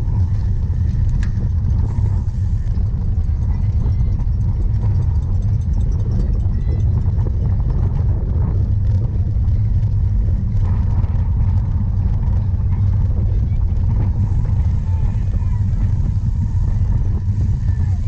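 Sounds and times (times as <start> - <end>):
bike riding noise: 0.0 - 18.0
wind buffeting microphone: 0.0 - 18.0.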